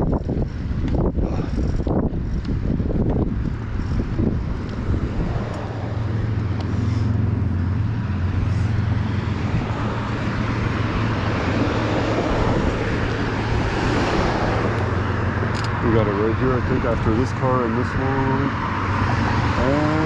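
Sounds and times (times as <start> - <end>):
car engines and tyre noise: 0.0 - 20.0
low engine hum: 0.0 - 20.0
passing car rush: 0.0 - 20.0.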